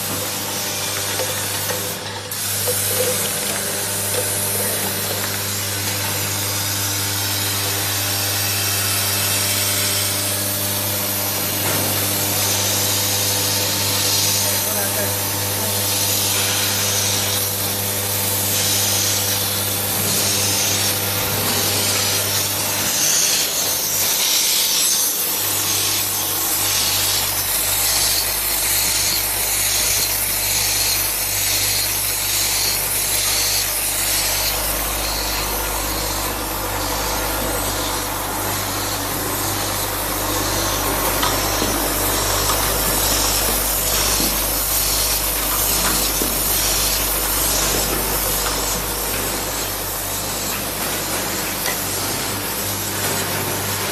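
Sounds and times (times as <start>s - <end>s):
machine whirring: 0.0s - 53.9s
pneumatic air hiss: 0.0s - 53.9s.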